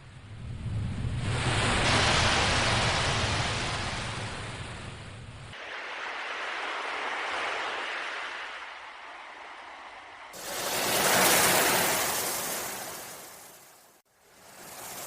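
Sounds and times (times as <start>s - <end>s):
sea waves breaking: 1.2s - 15.0s.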